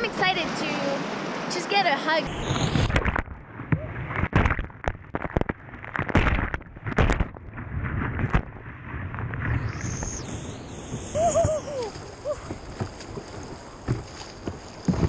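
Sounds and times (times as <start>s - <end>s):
muffled rush of water: 0.0s - 15.0s
sharp water splashes: 0.0s - 15.0s.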